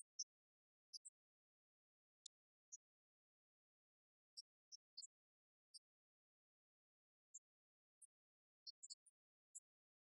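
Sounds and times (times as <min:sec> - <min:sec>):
faint high-pitched ticks: 0:00.0 - 0:10.0.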